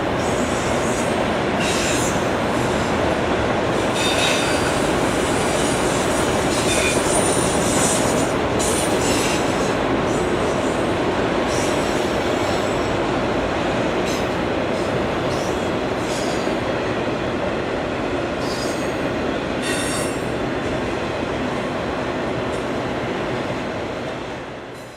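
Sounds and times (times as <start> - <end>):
train wheels rumbling on rail: 0.0 - 24.9.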